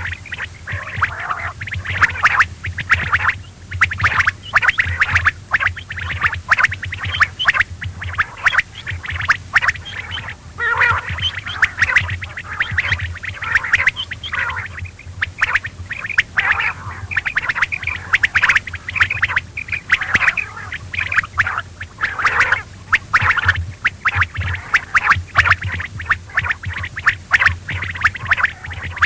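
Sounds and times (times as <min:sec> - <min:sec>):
low steady hum: 0:00.0 - 0:29.0
quail calling: 0:00.0 - 0:29.0.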